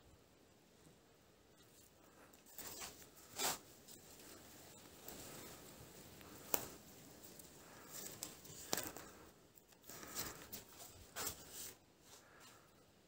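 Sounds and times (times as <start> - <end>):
twine rustling: 1.5 - 12.8.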